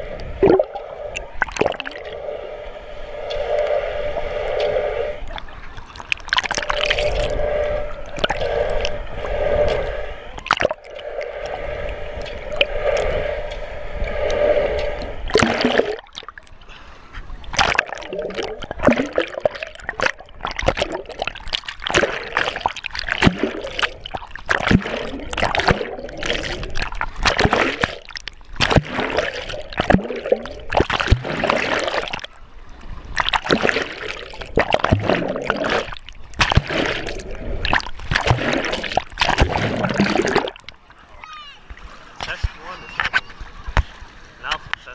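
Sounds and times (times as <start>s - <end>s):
water splashing and sloshing: 0.0s - 44.9s.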